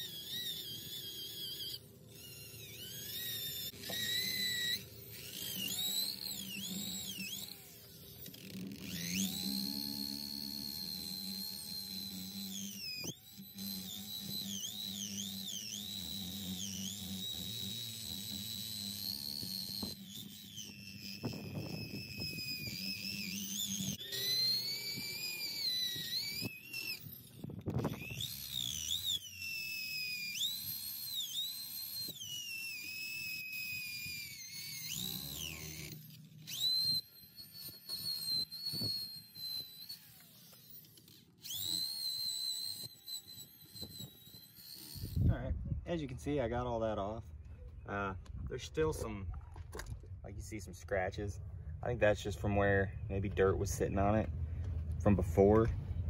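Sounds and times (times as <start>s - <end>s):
drill motor whine: 0.0s - 56.0s.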